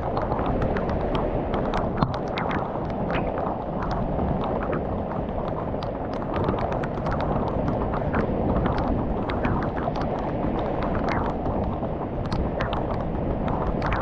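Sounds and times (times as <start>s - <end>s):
raindrops ticking close by: 0.0s - 14.0s.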